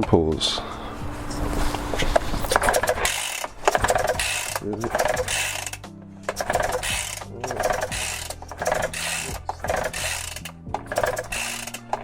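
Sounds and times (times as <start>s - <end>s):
lo-fi background music: 0.0s - 12.0s
engine pull-starter whirring: 1.6s - 12.0s.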